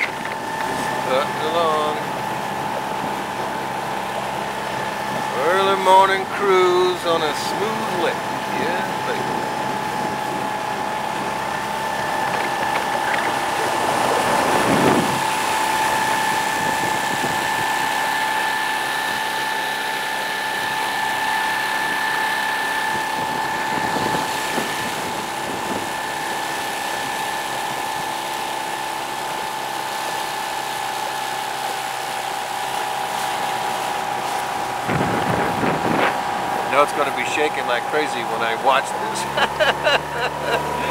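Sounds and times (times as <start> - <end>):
outboard motor whine: 0.0 - 40.9
water rushing from wake: 0.0 - 40.9.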